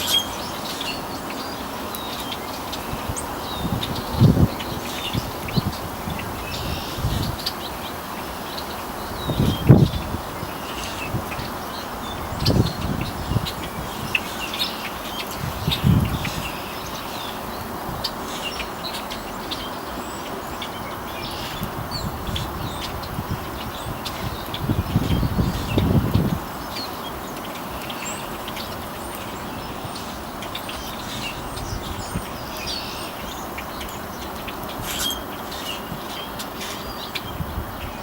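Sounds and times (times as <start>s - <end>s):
outdoor hiss: 0.0s - 38.0s
small birds chirping: 0.0s - 38.0s.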